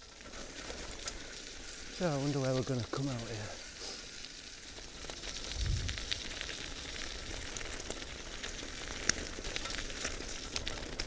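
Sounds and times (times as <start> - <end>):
bicycle tyres rolling on mud: 0.0 - 11.0.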